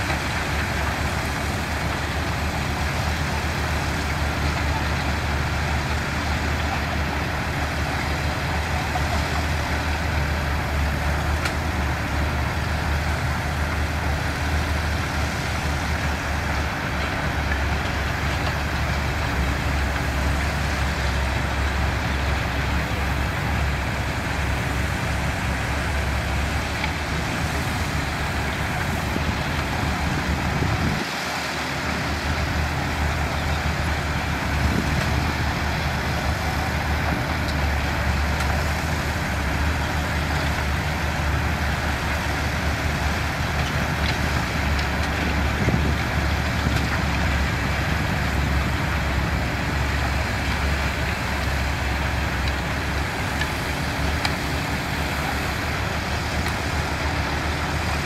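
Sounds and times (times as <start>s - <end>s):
construction machinery diesel engine: 0.0s - 58.0s.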